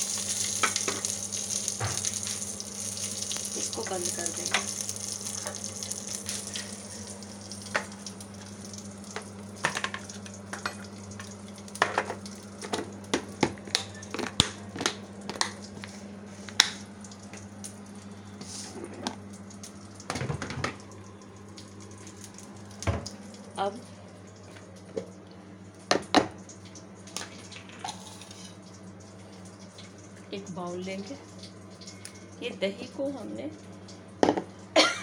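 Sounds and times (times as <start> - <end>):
oil sizzling in a pan: 0.0 - 25.0, 25.6 - 35.0.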